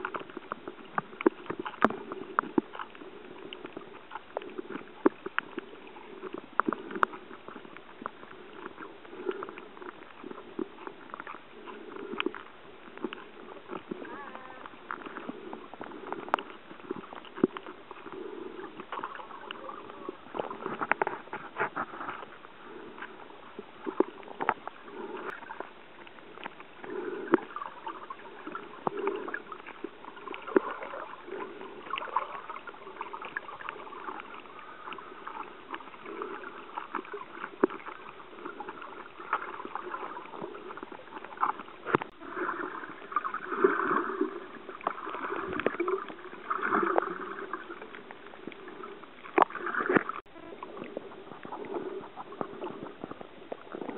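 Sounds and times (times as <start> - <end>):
underwater water sloshing: 0.0 - 53.9.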